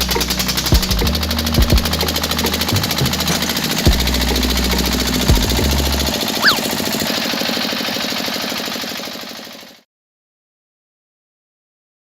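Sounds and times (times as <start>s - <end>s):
small engine running: 0.0s - 9.9s.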